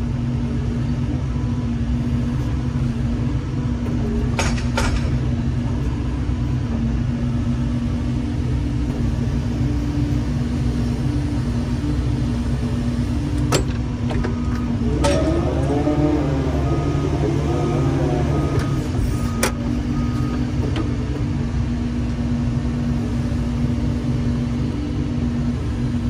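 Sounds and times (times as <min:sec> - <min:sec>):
excavator diesel engine and hydraulics: 0:00.0 - 0:26.0.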